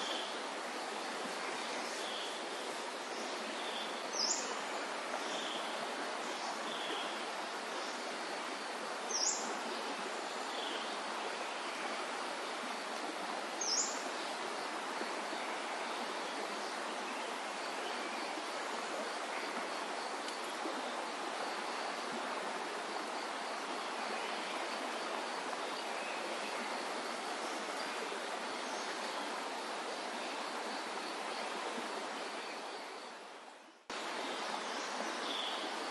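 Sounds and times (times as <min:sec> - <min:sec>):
river water and waterfalls rushing: 0:00.0 - 0:35.9.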